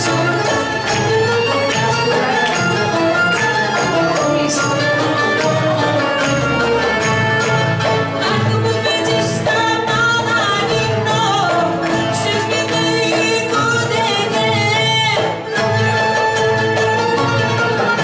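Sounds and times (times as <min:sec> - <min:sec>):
string ensemble playing folk song: 0:00.0 - 0:18.0.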